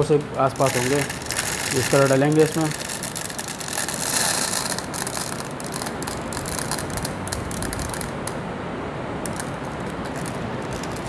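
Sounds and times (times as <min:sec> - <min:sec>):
plastic pellets rattling into magazine: 0:00.5 - 0:08.2, 0:09.3 - 0:11.0.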